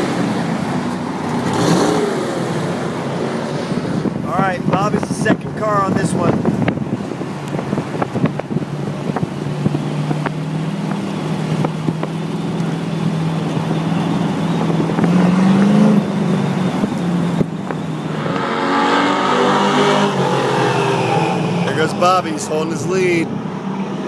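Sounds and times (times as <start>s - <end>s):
wind buffeting microphone: 0.0s - 22.3s
car engine passing close: 0.0s - 24.0s
race car engines droning: 0.0s - 24.0s.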